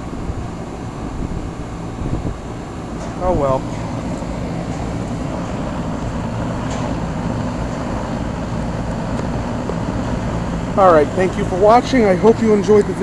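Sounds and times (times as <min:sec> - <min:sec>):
air rushing from unit: 0:00.0 - 0:13.0
heat pump humming: 0:00.0 - 0:13.0.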